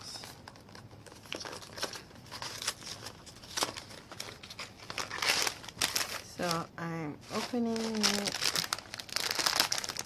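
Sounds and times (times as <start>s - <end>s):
cereal packet crinkling: 1.0s - 6.6s, 7.3s - 10.0s.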